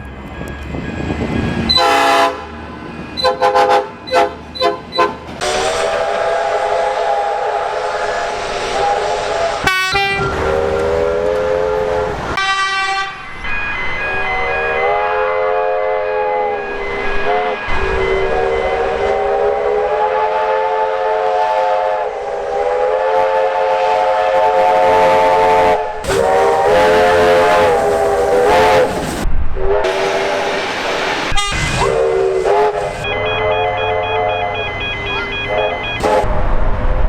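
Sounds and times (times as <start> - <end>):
train air horn blasts: 1.7 - 2.6, 3.2 - 13.2, 14.8 - 30.6, 31.3 - 36.4.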